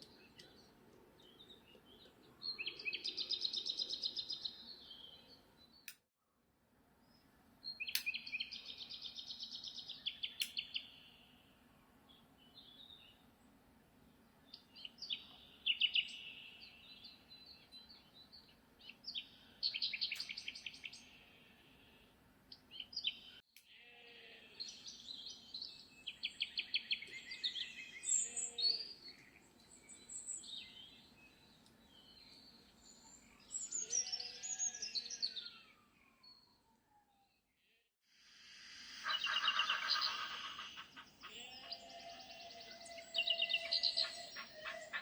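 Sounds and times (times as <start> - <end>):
songbirds chirping and trilling: 0.0 - 6.0, 7.0 - 37.2, 38.7 - 45.0.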